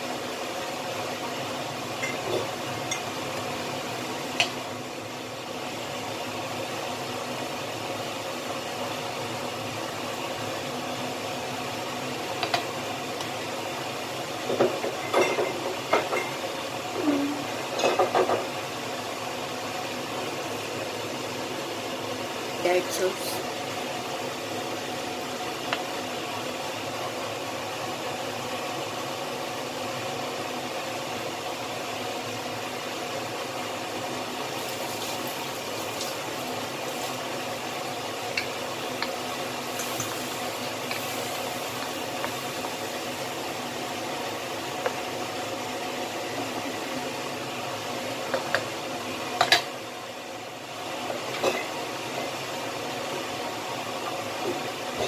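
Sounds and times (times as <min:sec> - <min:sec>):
broth bubbling in a wok: 0:00.0 - 0:22.6, 0:23.4 - 0:55.0.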